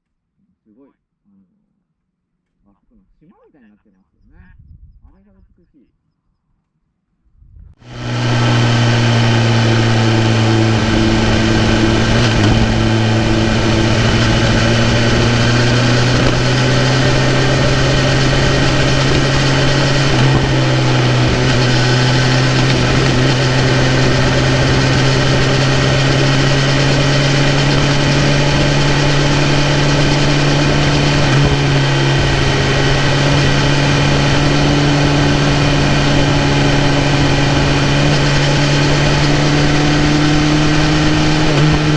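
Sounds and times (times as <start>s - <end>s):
motorcycle engine running: 7.8s - 41.9s.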